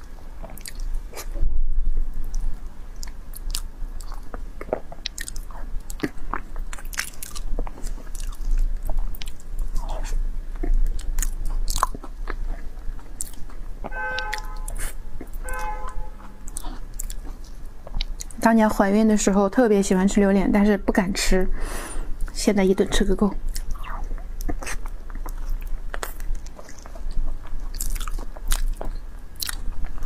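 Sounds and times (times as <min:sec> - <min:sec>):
close chewing mouth sounds: 0:00.0 - 0:01.4, 0:02.2 - 0:18.8, 0:23.0 - 0:30.0.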